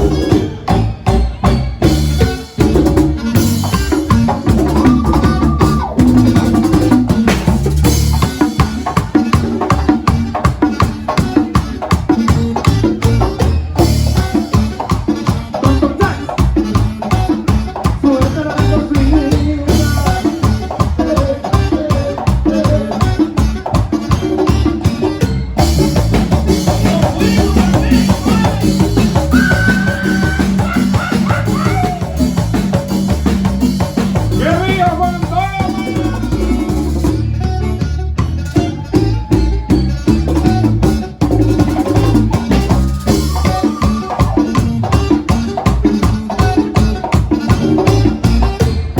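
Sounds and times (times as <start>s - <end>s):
danceable band music: 0.0s - 48.9s.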